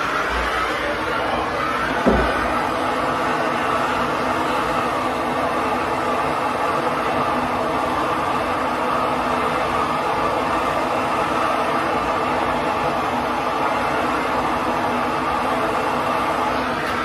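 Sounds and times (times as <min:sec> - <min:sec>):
gas torch flame burning: 0:00.0 - 0:17.0.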